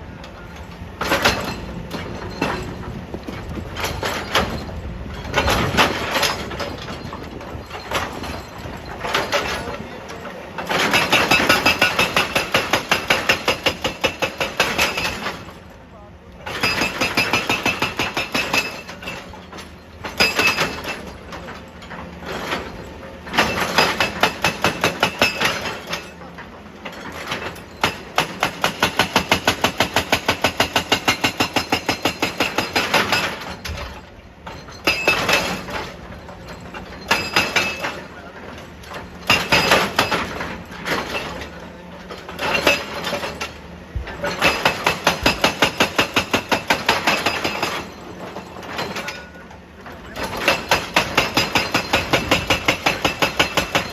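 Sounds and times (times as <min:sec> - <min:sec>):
hydraulic breaker hammering rock: 0:00.2 - 0:15.7, 0:16.4 - 0:53.9.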